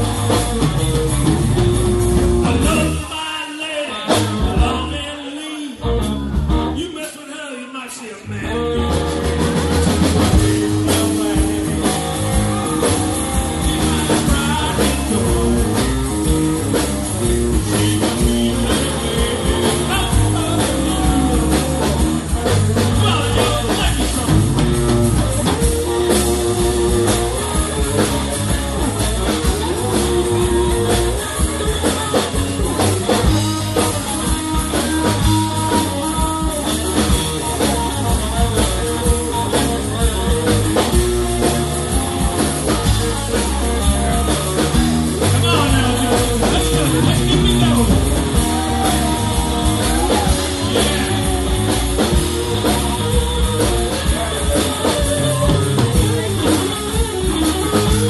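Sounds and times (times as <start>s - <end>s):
bass guitar: 0.0s - 7.0s, 8.2s - 58.0s
drum kit: 0.0s - 7.0s, 8.4s - 58.0s
electric guitars: 0.0s - 58.0s
live blues rock band: 0.0s - 58.0s.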